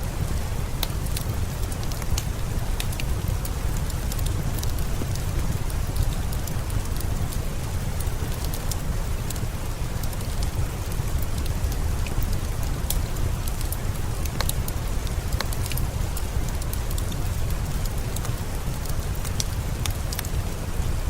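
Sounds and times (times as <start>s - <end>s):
steady rain: 0.0s - 21.0s
wood fire crackling: 0.0s - 21.0s.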